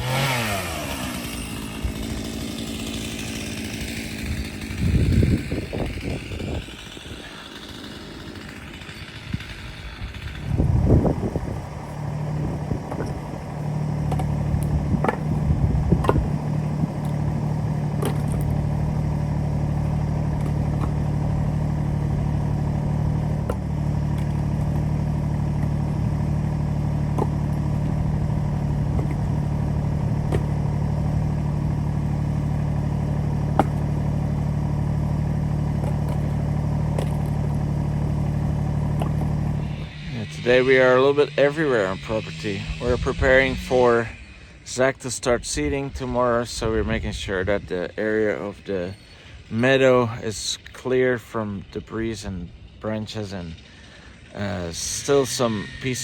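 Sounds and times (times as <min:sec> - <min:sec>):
wood chipper engine running: 0:00.0 - 0:56.0.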